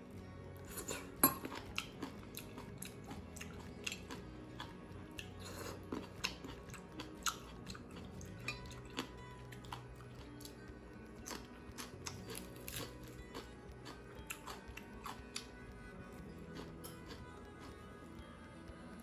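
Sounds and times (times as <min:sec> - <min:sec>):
chewing and crunching salad: 0:00.1 - 0:19.0.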